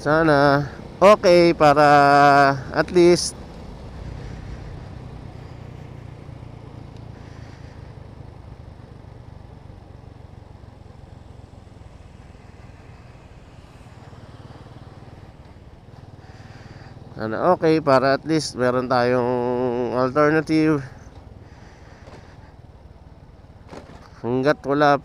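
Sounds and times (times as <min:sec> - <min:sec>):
motorcycle engine rumble: 0:00.0 - 0:25.0.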